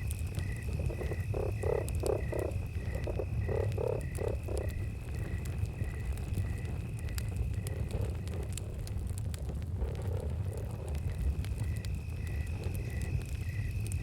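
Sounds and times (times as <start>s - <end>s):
high insect trill: 0.0s - 8.5s, 10.2s - 14.0s
campfire crackling and popping: 0.0s - 14.0s
crickets chirping: 0.0s - 14.0s.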